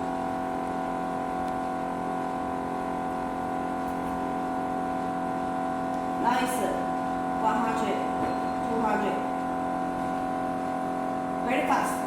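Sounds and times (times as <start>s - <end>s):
melting furnace humming: 0.0s - 12.0s.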